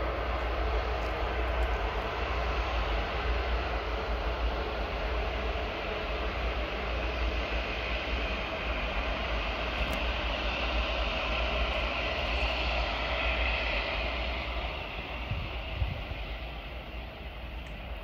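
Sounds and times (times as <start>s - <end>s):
jet engines whooshing: 0.0s - 18.0s.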